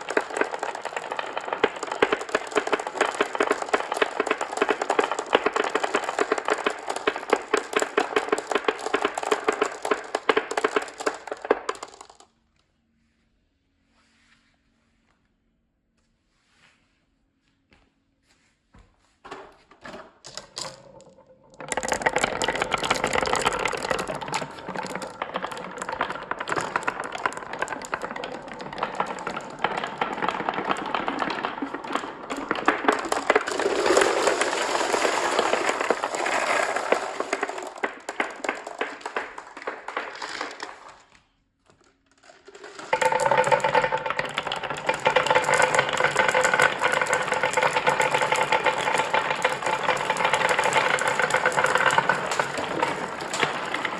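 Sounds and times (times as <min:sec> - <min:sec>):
marbles rattling down a run: 0:00.0 - 0:12.3, 0:20.3 - 0:41.2, 0:41.8 - 0:53.9.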